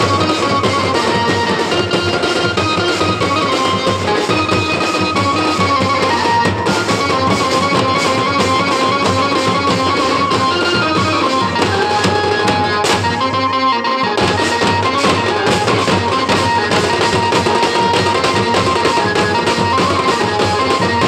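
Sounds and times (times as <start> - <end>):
barrel drums beating fast rhythm: 0.0 - 21.0
stepping melody line: 0.0 - 21.0.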